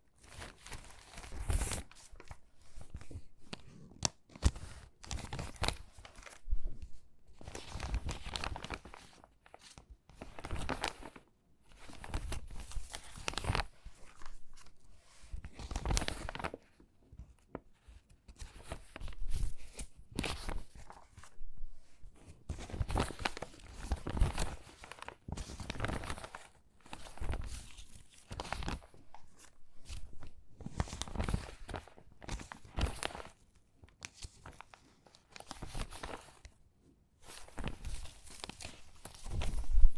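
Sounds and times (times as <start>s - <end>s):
paper crackling and rustling: 0.2s - 21.4s, 22.2s - 36.6s, 37.2s - 39.9s.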